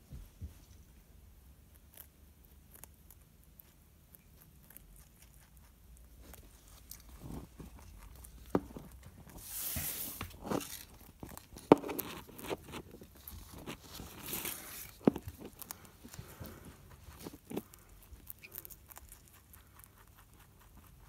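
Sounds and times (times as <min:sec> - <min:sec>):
rabbit crunching and nibbling: 0:00.5 - 0:21.0.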